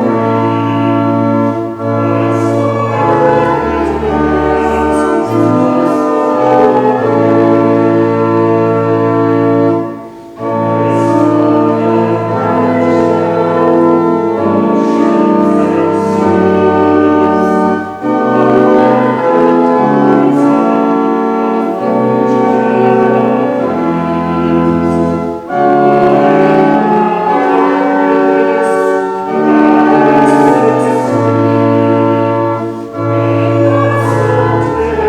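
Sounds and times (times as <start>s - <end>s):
church organ playing chords: 0.0s - 35.0s.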